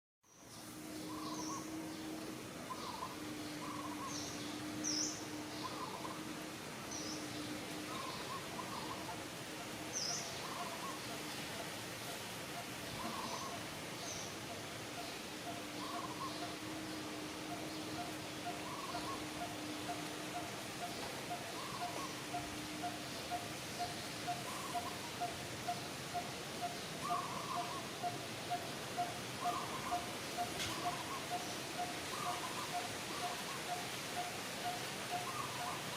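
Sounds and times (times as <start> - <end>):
background hiss: 0.3 - 35.9
birds chirping: 0.3 - 35.9
faint steady hum: 0.3 - 35.9
lower bird call notes: 1.0 - 35.9.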